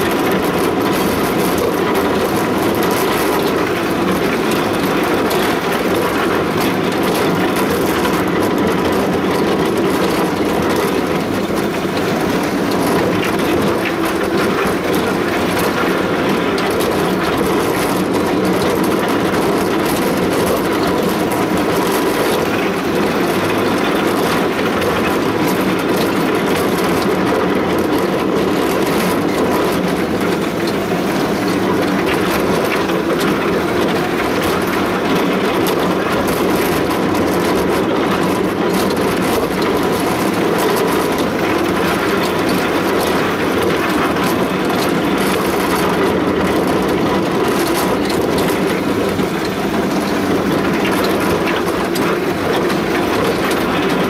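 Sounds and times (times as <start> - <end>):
ride train rumbling on track: 0.0 - 54.0.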